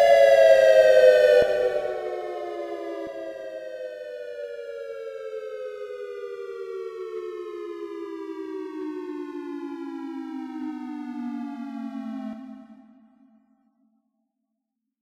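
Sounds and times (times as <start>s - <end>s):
electronic siren winding down: 0.0s - 13.0s.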